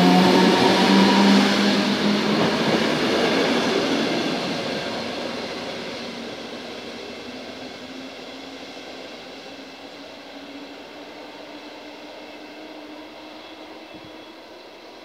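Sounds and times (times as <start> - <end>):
electric train running on track: 0.0 - 15.0.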